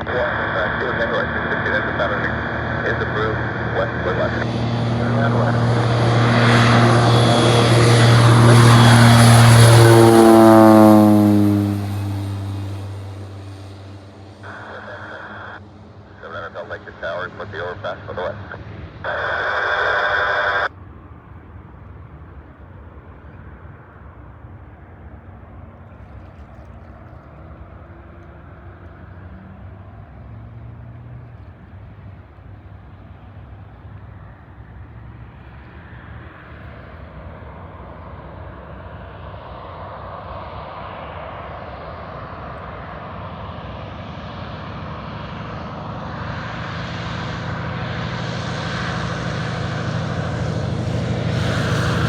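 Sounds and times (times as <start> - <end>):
propeller plane engine droning: 0.0 - 52.0.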